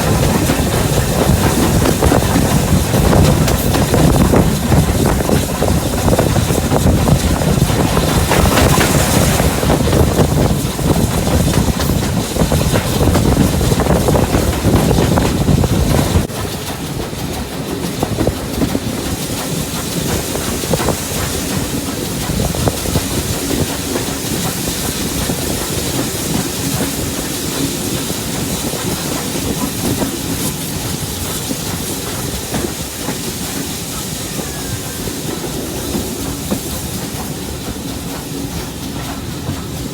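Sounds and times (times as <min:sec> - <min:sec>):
hiss: 0:00.0 - 0:39.9
train wheels clattering on rails: 0:00.0 - 0:39.9.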